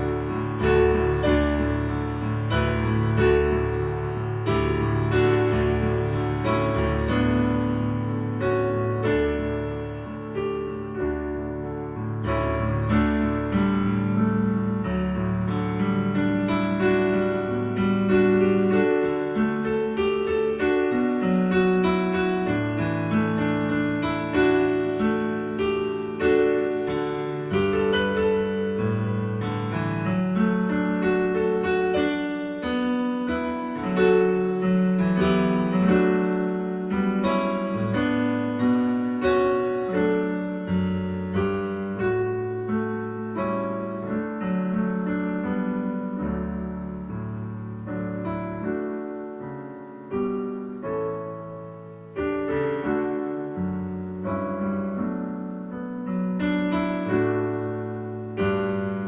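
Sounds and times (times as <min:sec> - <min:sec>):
hymn played on digital piano: 0:00.0 - 0:59.0.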